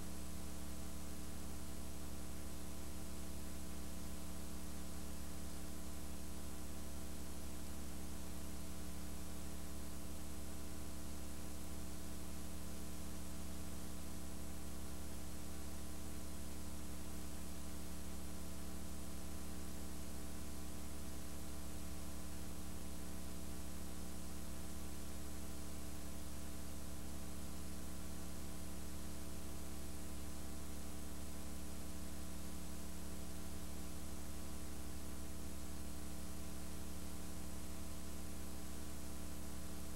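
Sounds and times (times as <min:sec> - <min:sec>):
electrical hum with hiss: 0:00.0 - 0:39.9.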